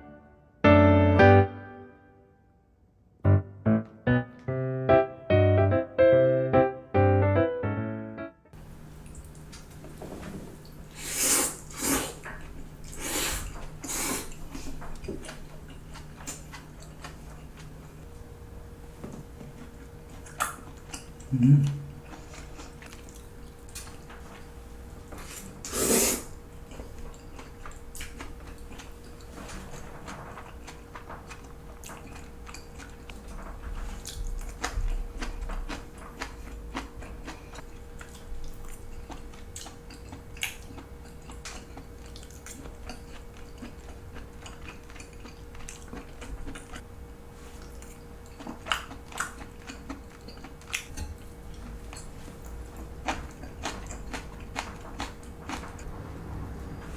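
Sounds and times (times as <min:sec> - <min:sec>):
person chewing: 0:08.9 - 0:18.3, 0:19.2 - 0:56.0.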